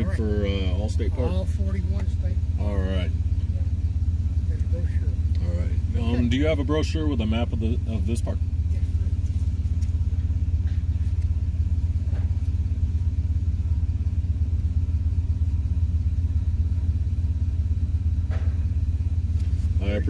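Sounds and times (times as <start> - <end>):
van engine idling: 0.0 - 20.0.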